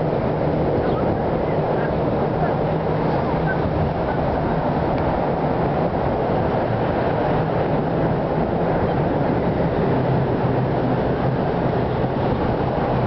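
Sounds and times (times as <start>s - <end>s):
boat engines rumbling: 0.0s - 13.0s.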